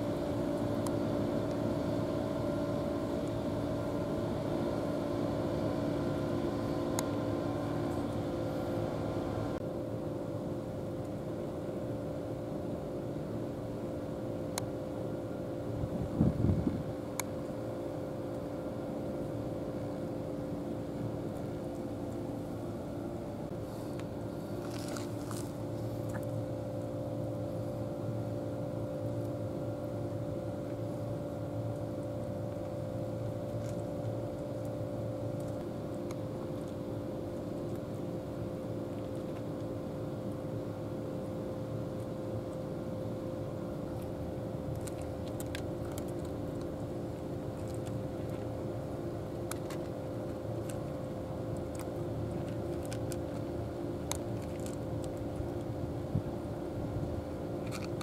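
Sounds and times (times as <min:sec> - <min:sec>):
low mechanical drone: 0:00.0 - 0:58.0.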